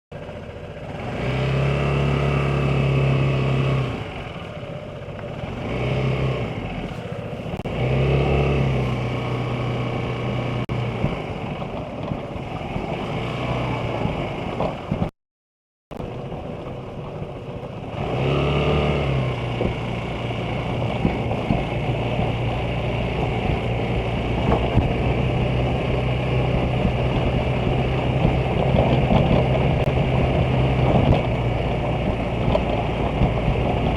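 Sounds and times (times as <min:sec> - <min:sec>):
scooter engine accelerating: 0:00.2 - 0:15.1, 0:16.0 - 0:33.9.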